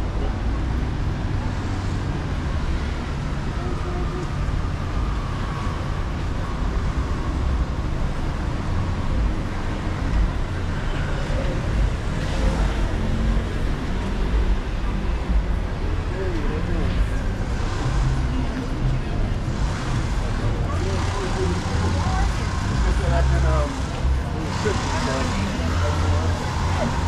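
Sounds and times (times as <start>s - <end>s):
rumble of passing vehicles: 0.0s - 27.0s.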